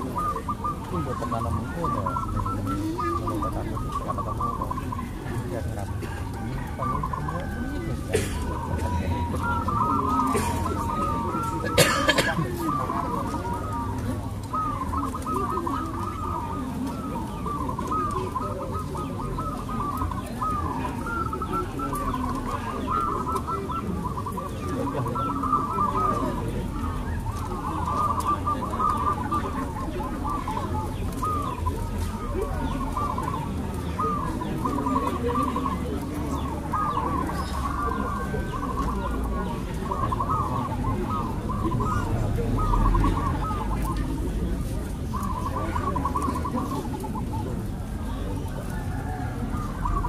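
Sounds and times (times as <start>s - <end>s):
doves cooing: 0.0s - 50.0s
low background noise: 0.0s - 50.0s.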